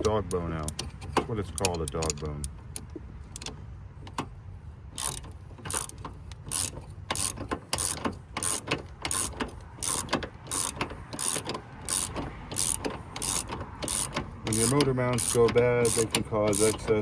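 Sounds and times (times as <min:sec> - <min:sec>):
hand ratchet clicking: 0:00.0 - 0:03.5, 0:05.0 - 0:17.0.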